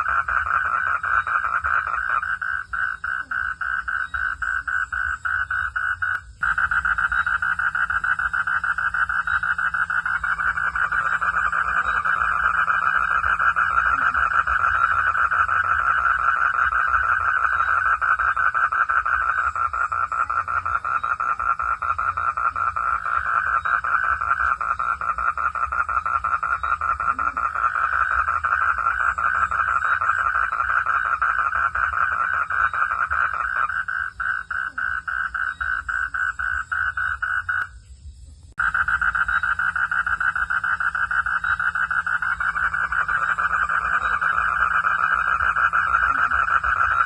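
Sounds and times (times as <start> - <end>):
frog calling in pulses: 0.0 - 37.8, 38.6 - 47.0.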